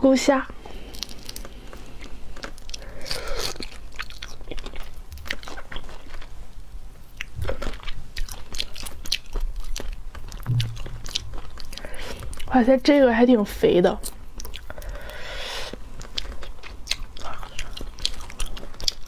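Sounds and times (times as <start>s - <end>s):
crunchy chewing: 0.7s - 12.5s, 14.0s - 19.0s.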